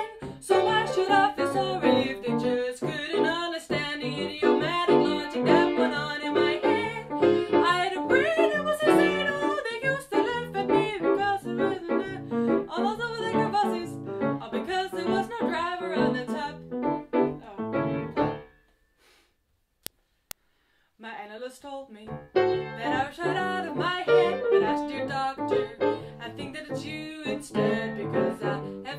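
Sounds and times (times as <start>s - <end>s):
woman singing jazz: 0.0s - 18.1s, 21.0s - 28.9s
piano accompaniment: 0.5s - 18.6s, 22.1s - 28.9s.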